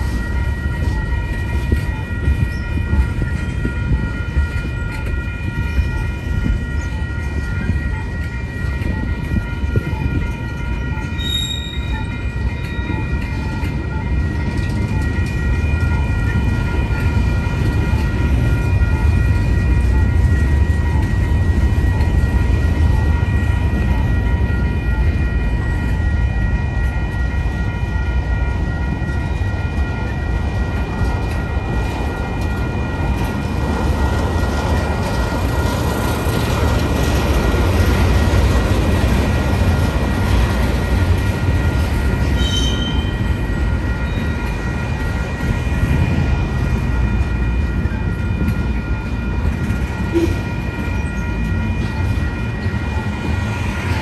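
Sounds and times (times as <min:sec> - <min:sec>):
high ringing tones: 0:00.0 - 0:54.0
train wheels rumbling on rail: 0:00.0 - 0:54.0.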